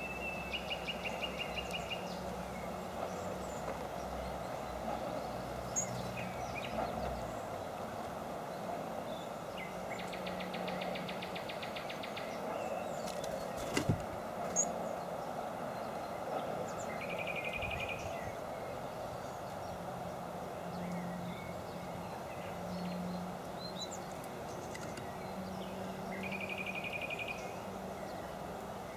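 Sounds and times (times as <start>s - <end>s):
outdoor background hiss: 0.0s - 28.9s
small birds trilling: 0.0s - 28.9s.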